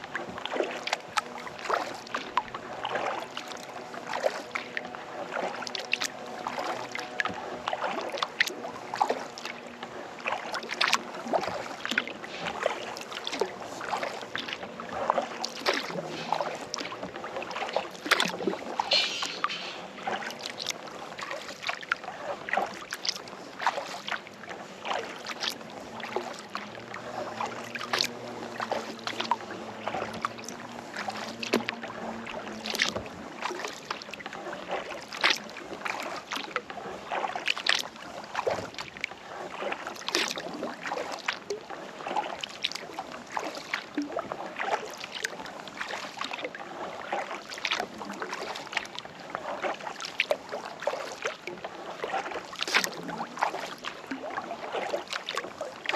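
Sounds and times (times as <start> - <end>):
kayak paddle dipping into water: 0.0 - 55.9
water splashing and dripping: 0.2 - 24.2, 24.8 - 55.9.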